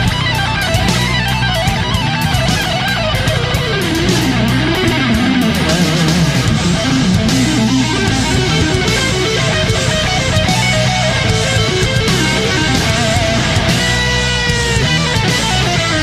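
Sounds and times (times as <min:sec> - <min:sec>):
rock music: 0:00.0 - 0:16.0.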